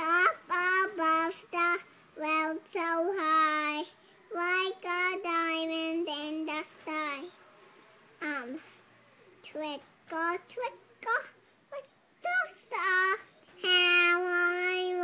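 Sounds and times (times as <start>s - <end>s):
young girl singing: 0.0s - 7.4s, 8.2s - 8.7s, 9.4s - 15.0s.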